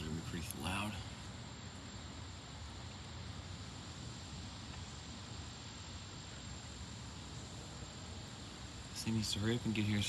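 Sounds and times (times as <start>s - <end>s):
wind through trees: 0.0s - 10.0s.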